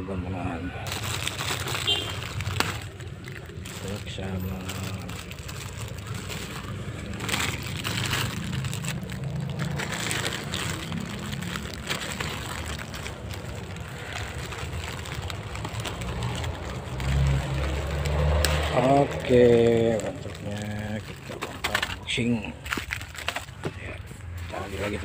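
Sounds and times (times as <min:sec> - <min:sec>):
plastic packaging crinkling: 0:00.8 - 0:23.8.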